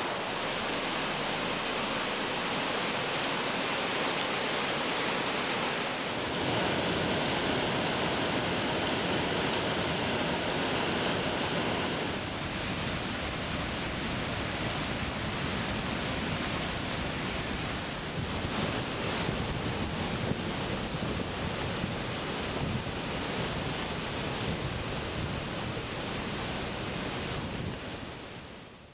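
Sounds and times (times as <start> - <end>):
stream cascading onto gravel: 0.0 - 27.9
creek churning through whitewater: 0.0 - 28.7.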